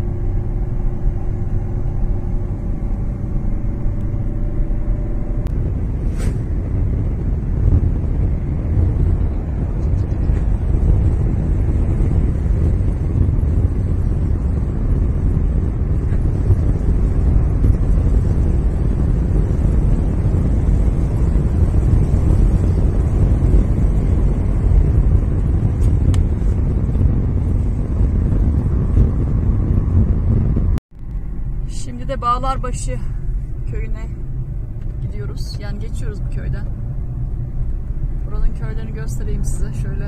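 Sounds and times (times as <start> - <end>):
car driving rumble from inside: 0.0 - 40.0.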